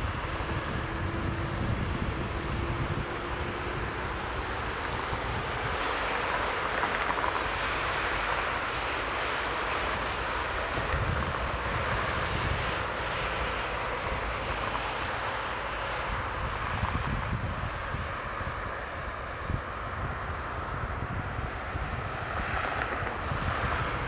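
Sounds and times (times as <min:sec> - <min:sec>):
jet engines rushing hum: 0:00.0 - 0:24.0
wind buffeting microphone: 0:00.0 - 0:24.0.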